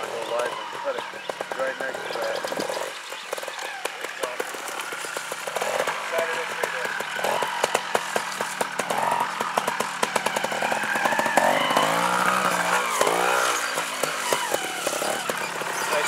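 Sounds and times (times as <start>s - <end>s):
motorcycle engine popping and revving: 0.0s - 16.0s.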